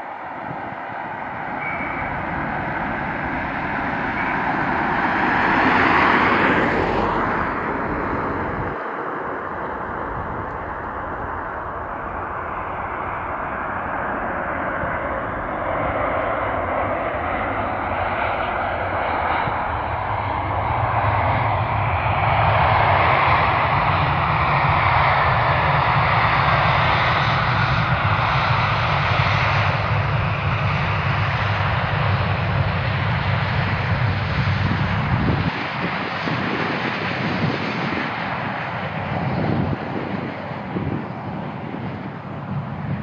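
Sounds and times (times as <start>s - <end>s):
jet engines passing: 0.0s - 43.0s.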